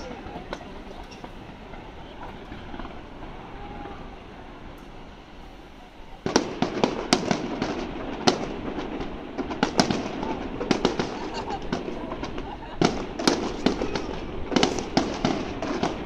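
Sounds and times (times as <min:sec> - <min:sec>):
fireworks bangs and crackles: 0:00.0 - 0:16.0
steady background noise: 0:00.0 - 0:16.0.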